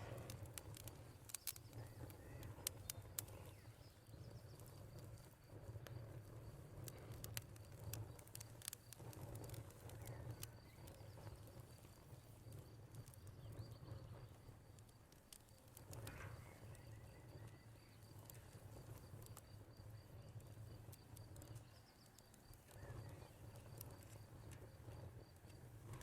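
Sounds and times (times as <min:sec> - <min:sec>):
crickets trilling: 0:00.0 - 0:26.0
faint birds: 0:00.0 - 0:26.0
wood fire crackling: 0:00.0 - 0:26.0.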